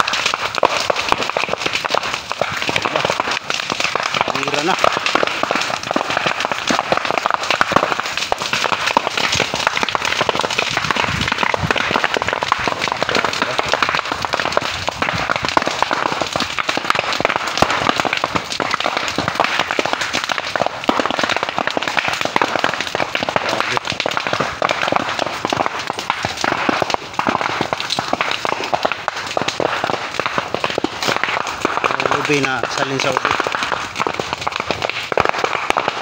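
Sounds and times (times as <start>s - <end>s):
bamboo fire crackling and popping: 0.0s - 36.0s.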